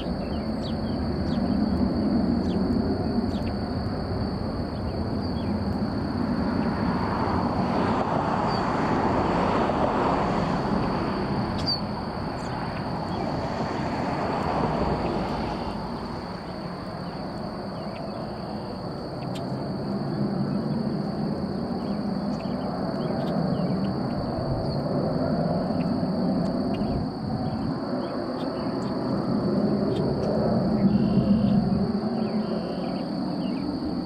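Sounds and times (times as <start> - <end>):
distant jet engine rumble: 0.0 - 34.0.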